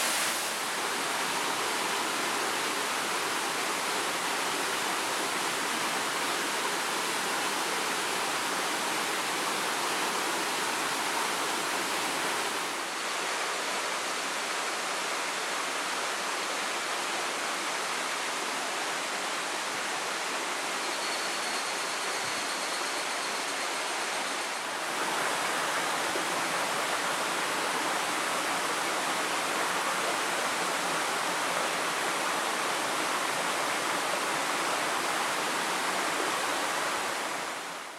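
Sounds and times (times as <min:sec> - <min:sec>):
waterfall rushing and splashing: 0:00.0 - 0:21.0, 0:21.7 - 0:37.9.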